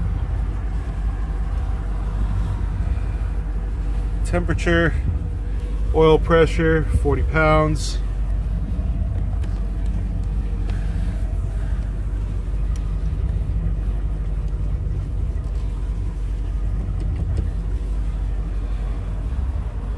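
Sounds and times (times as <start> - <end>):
boat engine idling: 0.0 - 19.9.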